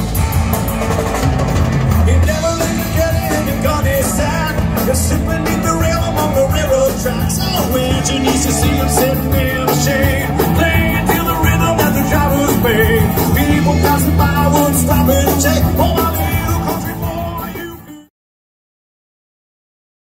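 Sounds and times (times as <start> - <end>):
bass guitar: 0.0 - 18.1
drums: 0.0 - 18.1
electric guitar: 0.0 - 18.1
person singing: 1.9 - 18.1.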